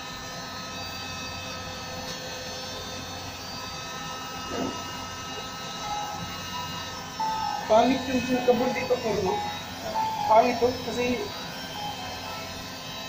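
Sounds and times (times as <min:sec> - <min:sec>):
hydraulic pump motor droning: 0:00.0 - 0:13.0.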